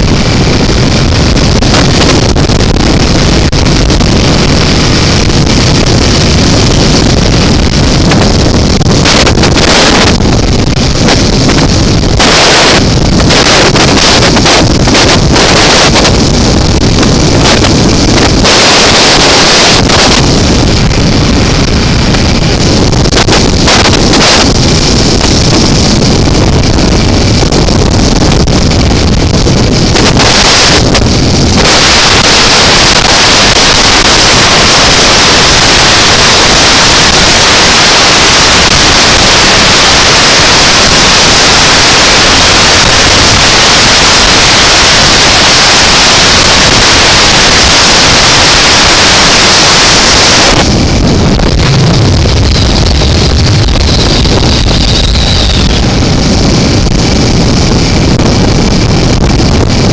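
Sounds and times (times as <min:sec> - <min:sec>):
motorcycle engine drone: 0:00.0 - 0:59.9
wind noise on microphone: 0:00.0 - 0:59.9.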